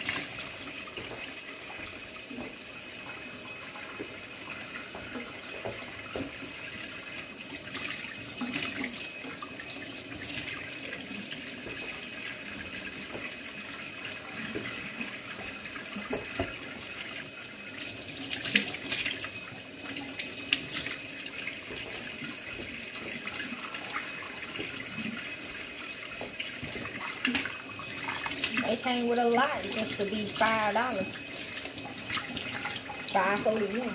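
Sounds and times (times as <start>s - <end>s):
faucet running into sink: 0.0s - 33.9s.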